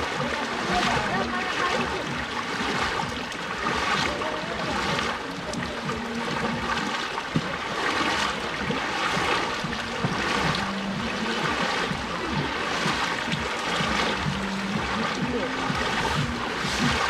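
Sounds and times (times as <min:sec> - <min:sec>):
floodwater rushing: 0:00.0 - 0:17.0
low steady hum: 0:00.0 - 0:17.0.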